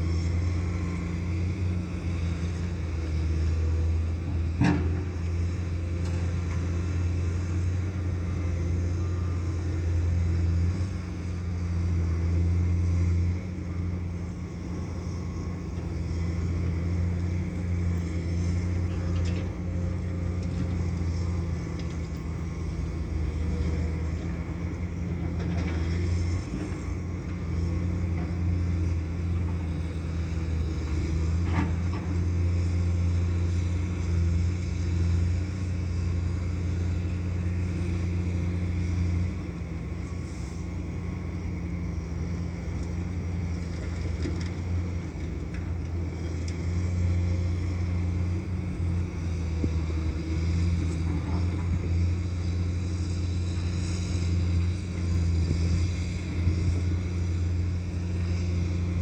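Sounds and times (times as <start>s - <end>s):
heavy diesel engine: 0.0s - 59.0s.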